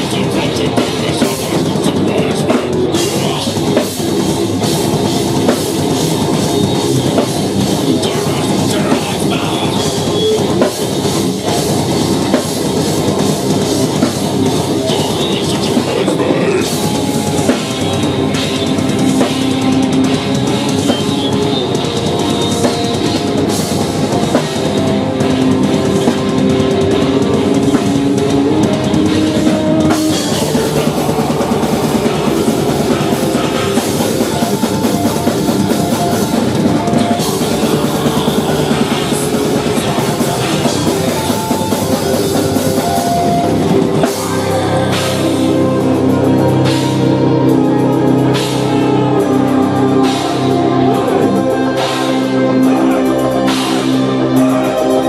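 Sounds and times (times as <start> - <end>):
bass guitar: 0.0 - 55.0
distorted guitars: 0.0 - 55.0
fast dense drumming and cymbals: 0.0 - 55.0.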